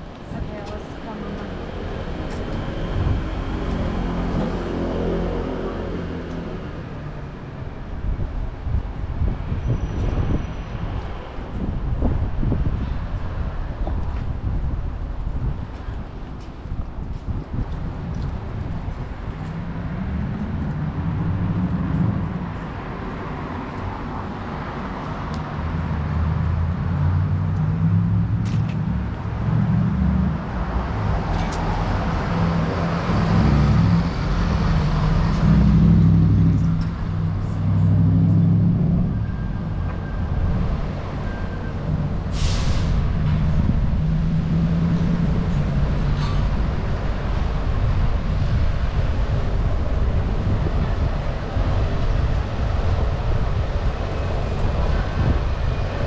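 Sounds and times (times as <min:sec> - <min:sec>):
cars and buses passing: 0:00.0 - 0:56.0.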